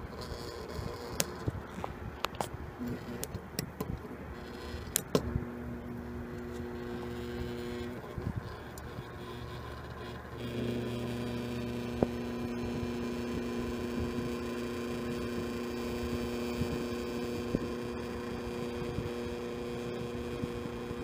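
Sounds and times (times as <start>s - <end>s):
transformer mains hum: 0.0s - 21.0s.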